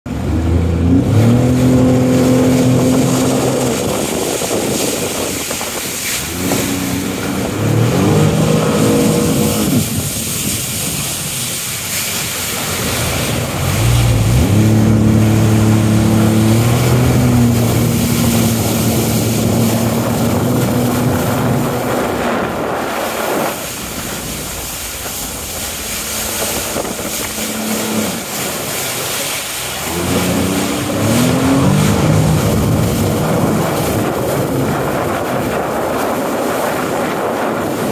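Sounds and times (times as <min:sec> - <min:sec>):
jet ski engine revving: 0:00.1 - 0:37.9
wind buffeting microphone: 0:00.1 - 0:37.9.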